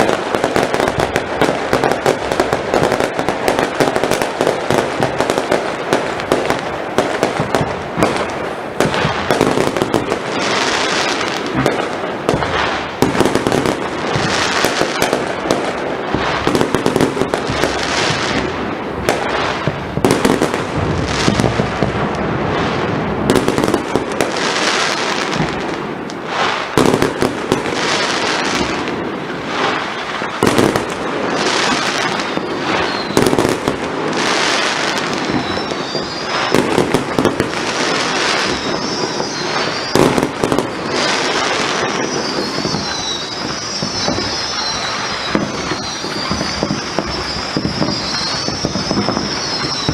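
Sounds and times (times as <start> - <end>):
fireworks banging and crackling: 0.0 - 49.9
hissing crackle of fireworks: 0.0 - 49.9.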